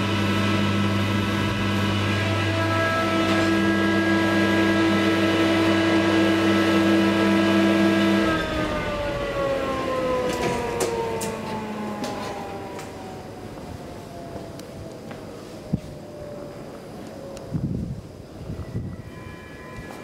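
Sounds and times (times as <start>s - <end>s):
elevator drive whine: 0.0s - 20.0s.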